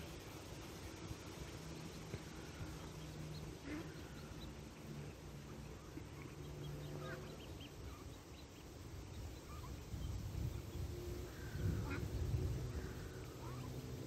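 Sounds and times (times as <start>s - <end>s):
ducklings peeping: 0.2s - 14.0s.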